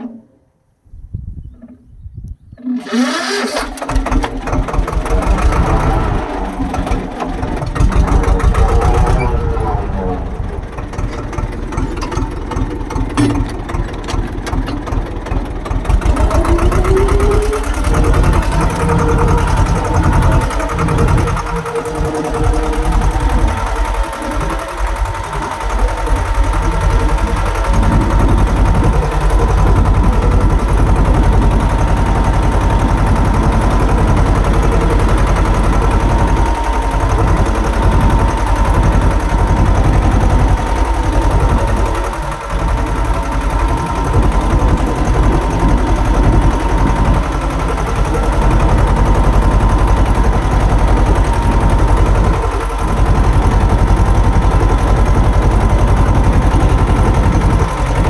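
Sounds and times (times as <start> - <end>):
tractor diesel engine under load: 2.6 - 58.0.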